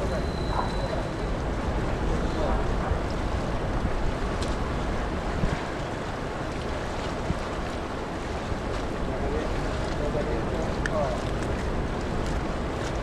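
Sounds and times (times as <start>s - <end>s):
water washing: 0.0s - 13.0s
wind noise on microphone: 0.0s - 13.0s.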